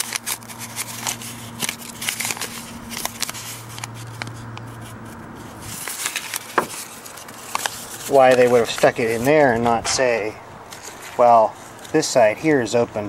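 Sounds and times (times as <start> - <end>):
handling clicks and crackles: 0.0 - 13.0
paper rustling: 0.0 - 13.0
steady low hum: 0.0 - 13.0.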